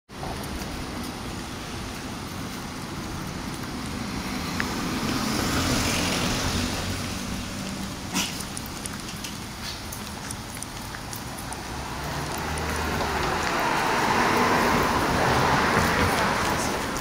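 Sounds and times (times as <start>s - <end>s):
car passing: 0.1s - 17.0s
street traffic noise: 0.1s - 17.0s.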